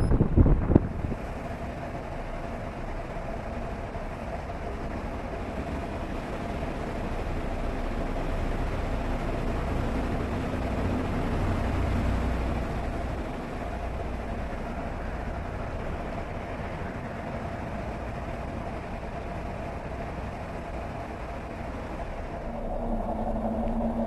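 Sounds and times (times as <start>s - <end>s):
boat engines rumbling: 0.0s - 24.0s
water and wind noise: 0.0s - 24.0s.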